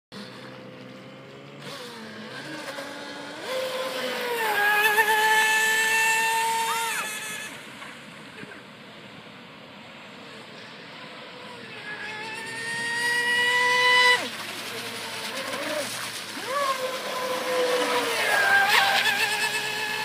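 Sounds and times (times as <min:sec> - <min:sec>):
rc boat motor whining: 0:01.5 - 0:08.1, 0:10.4 - 0:20.0.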